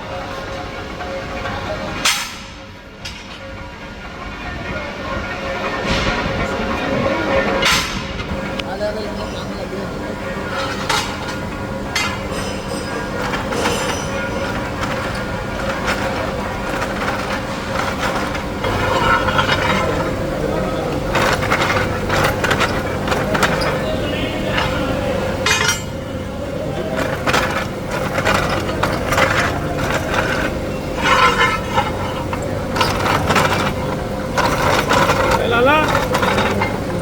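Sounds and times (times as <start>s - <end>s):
machinery hum: 0.0s - 37.0s
metal clanks and knocks: 1.0s - 3.6s, 5.7s - 7.0s, 7.6s - 37.0s.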